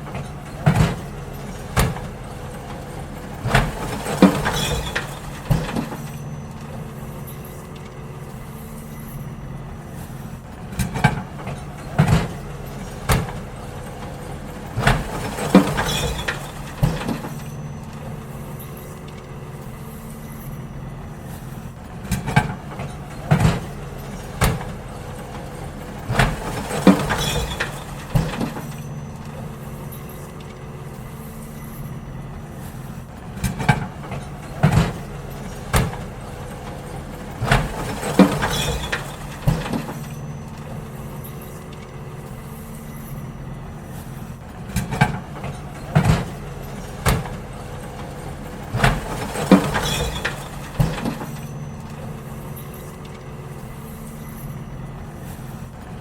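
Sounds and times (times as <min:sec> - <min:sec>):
bins knocking and banging: 0:00.0 - 0:08.6, 0:10.0 - 0:56.0
garbage truck engine running: 0:00.0 - 0:56.0.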